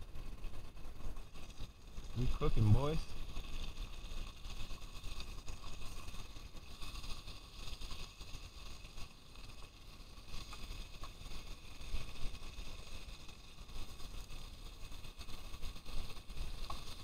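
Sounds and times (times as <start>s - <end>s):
fish frying in a pan: 0.0s - 17.0s
wind rumbling on microphone: 0.0s - 17.0s.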